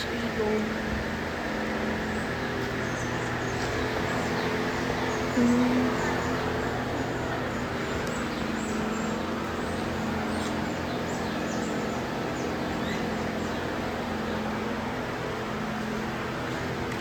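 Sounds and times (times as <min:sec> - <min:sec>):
low mechanical hum: 0:00.0 - 0:17.0
small birds chirping: 0:00.0 - 0:17.0.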